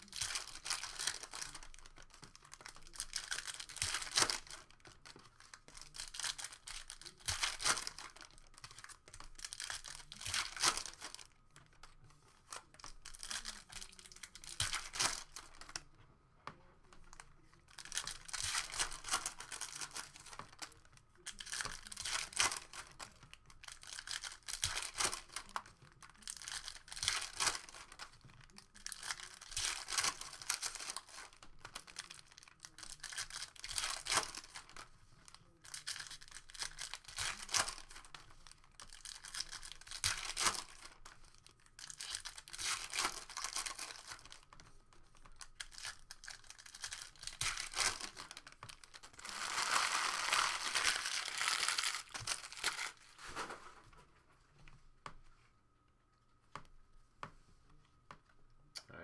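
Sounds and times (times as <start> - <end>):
foil wrappers tearing and crinkling: 0.0 - 11.8, 12.5 - 15.8, 17.6 - 53.7.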